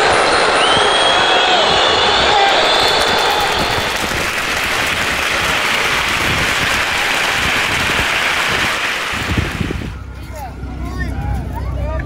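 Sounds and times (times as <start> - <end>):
crowd applause: 0.0 - 10.0.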